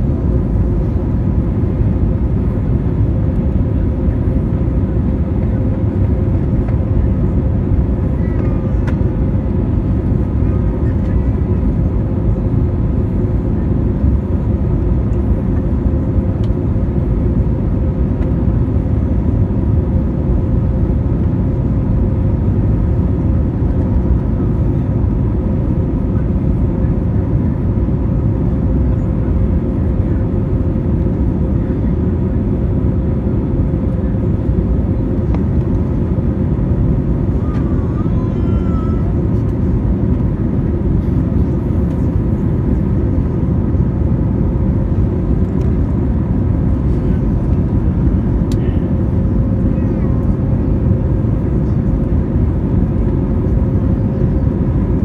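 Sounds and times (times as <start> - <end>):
airplane engines and rushing air: 0.0 - 55.0.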